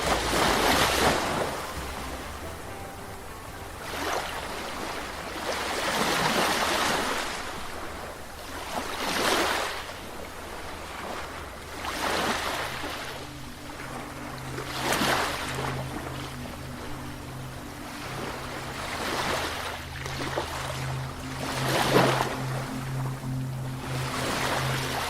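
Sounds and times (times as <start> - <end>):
low steady hum: 0.0 - 25.0
sea waves washing in: 0.0 - 25.0.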